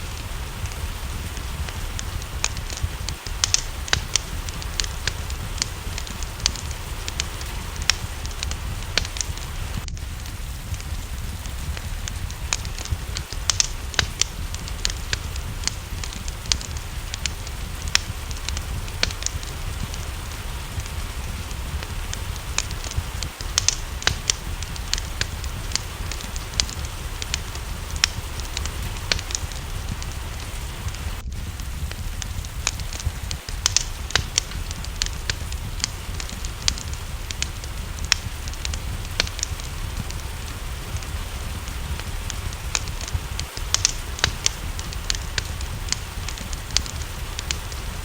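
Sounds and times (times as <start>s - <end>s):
rain hiss: 0.0s - 48.0s
steady low rumble: 0.0s - 48.0s
wood fire crackling and popping: 0.0s - 48.0s.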